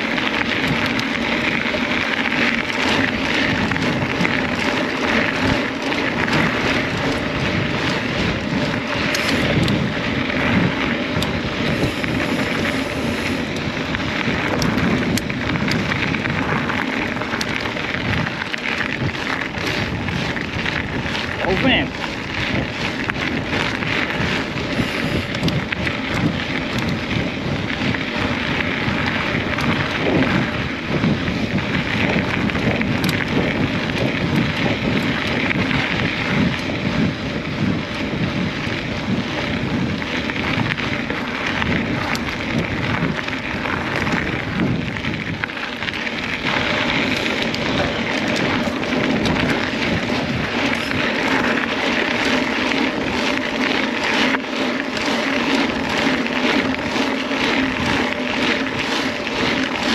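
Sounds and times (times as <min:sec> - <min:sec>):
bike tyres rolling on dirt: 0:00.0 - 0:59.9
wind on microphone: 0:00.0 - 0:59.9.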